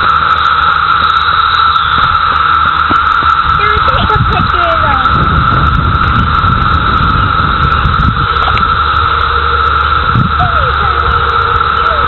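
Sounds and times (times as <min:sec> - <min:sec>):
cicadas droning: 0:00.0 - 0:12.0
low rumble: 0:00.0 - 0:12.0.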